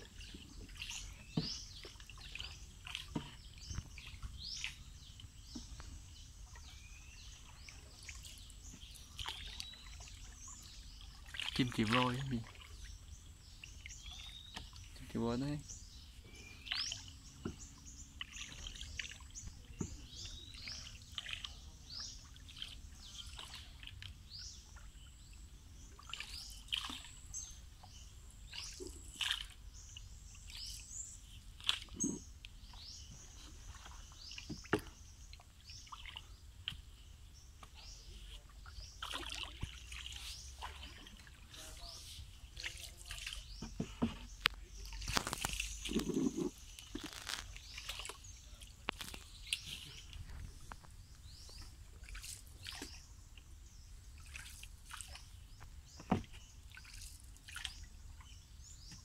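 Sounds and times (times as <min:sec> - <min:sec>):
birds chirping: 0:00.0 - 0:59.0
water sloshing from paddling: 0:00.0 - 0:59.0.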